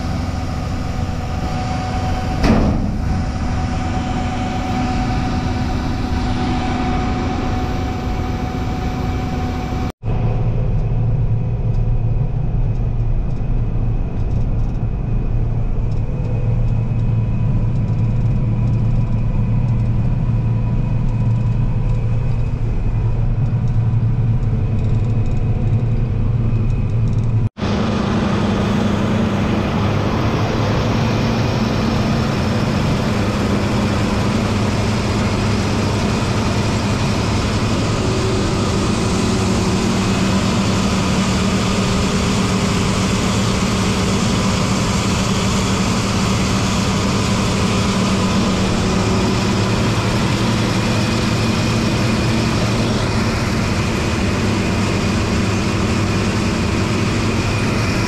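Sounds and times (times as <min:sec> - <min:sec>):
farm machine engine droning: 0:00.0 - 0:58.0.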